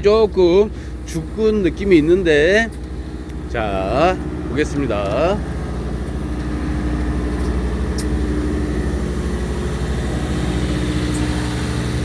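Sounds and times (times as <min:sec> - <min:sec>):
boat engine pulsing drone: 0:00.0 - 0:12.0.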